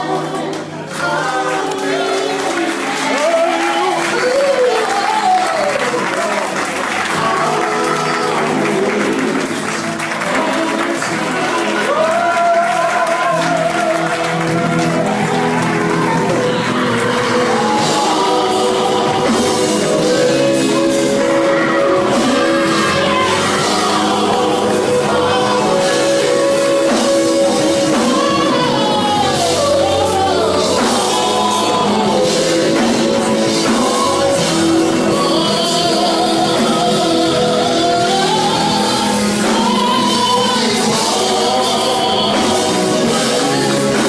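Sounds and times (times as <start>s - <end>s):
band playing held chords: 0.0s - 44.0s
gospel singers: 0.0s - 44.0s.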